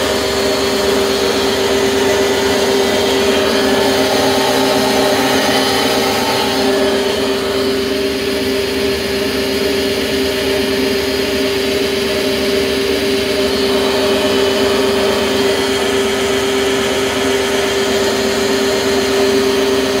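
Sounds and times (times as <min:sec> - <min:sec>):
machinery humming with constant tone: 0:00.0 - 0:20.0.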